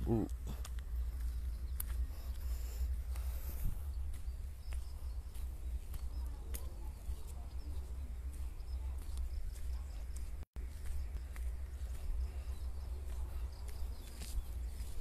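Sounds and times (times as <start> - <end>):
footsteps crunching: 0.0 - 15.0.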